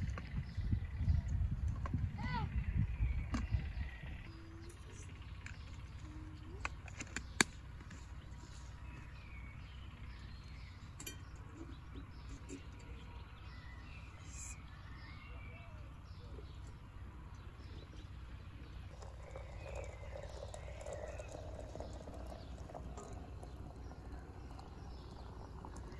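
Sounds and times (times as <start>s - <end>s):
birds chirping: 0.0s - 25.9s
low outdoor hum: 0.0s - 25.9s.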